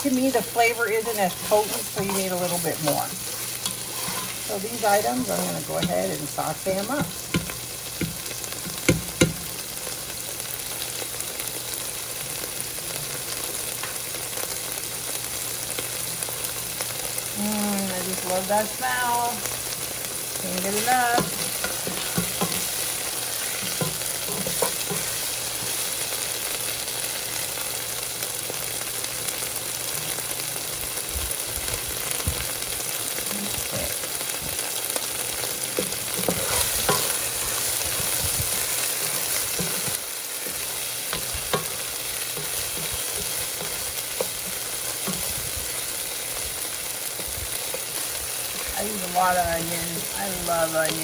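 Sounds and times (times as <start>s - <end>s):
onion sizzling in oil: 0.0s - 51.0s.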